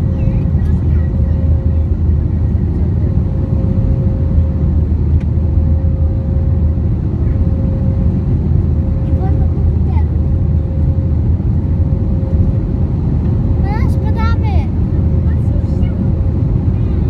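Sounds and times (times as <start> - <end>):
air rushing along fuselage: 0.0 - 17.0
jet engines roaring in cabin: 0.0 - 17.0.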